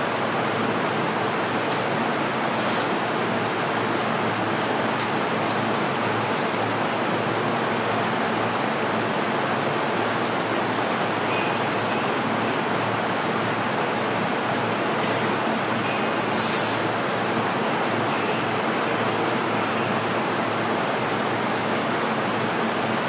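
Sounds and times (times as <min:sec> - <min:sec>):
train car interior noise: 0:00.0 - 0:23.0.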